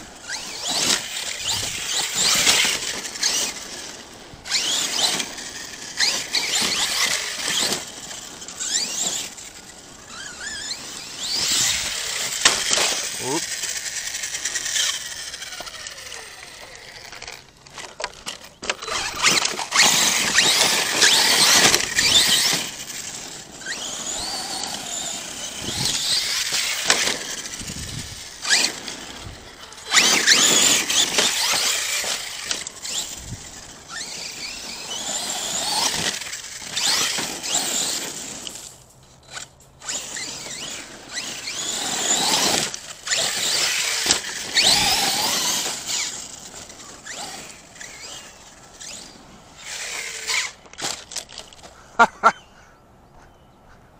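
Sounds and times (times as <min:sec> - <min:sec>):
electric motor whining high-pitched: 0:00.0 - 0:38.6, 0:39.2 - 0:50.6.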